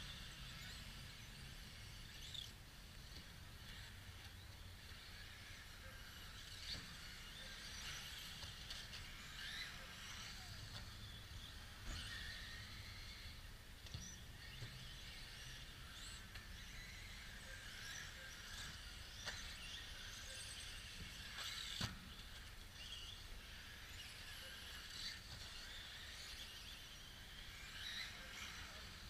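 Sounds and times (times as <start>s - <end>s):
model car motors whining: 0.0s - 29.0s.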